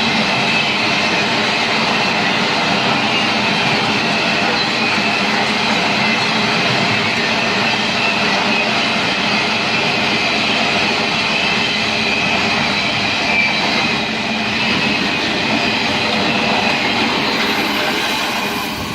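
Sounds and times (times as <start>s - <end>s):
train wheels rumbling on rails: 0.0s - 18.9s
high wheel squeal: 0.1s - 18.9s.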